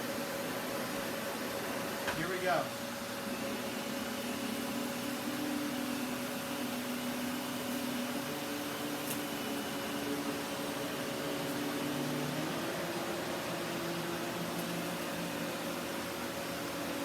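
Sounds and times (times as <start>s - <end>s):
vacuum cleaner sucking sawdust: 3.2s - 17.0s.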